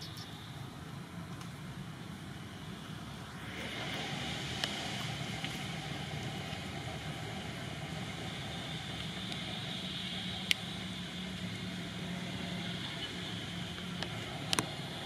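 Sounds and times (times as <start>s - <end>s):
high hiss-like drone: 0.0s - 15.0s
low hum: 0.0s - 15.0s.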